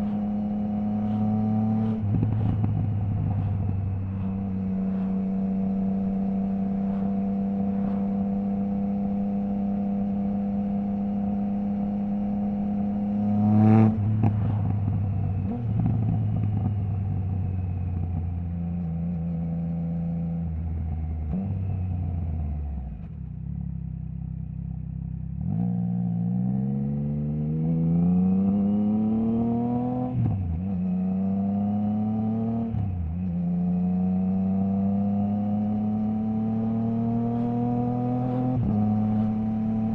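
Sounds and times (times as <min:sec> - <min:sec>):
motorcycle engine revving: 0:00.0 - 0:22.4, 0:25.3 - 0:39.9.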